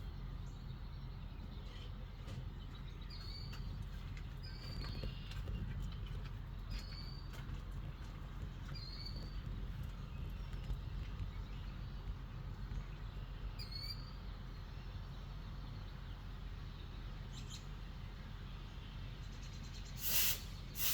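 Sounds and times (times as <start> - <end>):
steady low rumble: 0.0 - 20.8.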